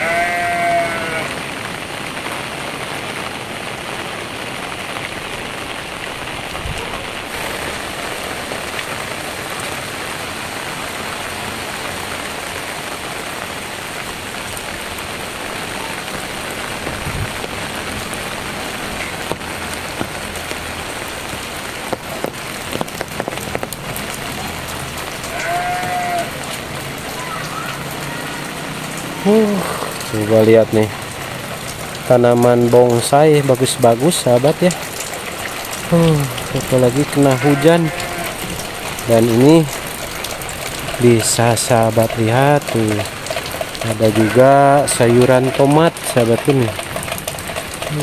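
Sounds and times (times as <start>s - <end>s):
heavy rain falling: 0.0s - 48.0s
sharp rain taps: 0.0s - 48.0s.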